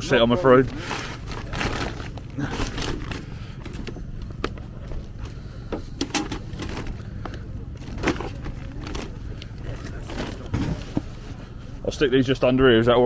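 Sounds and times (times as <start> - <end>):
items scraping and rustling: 0.0 - 12.4
faint voices: 0.0 - 13.0.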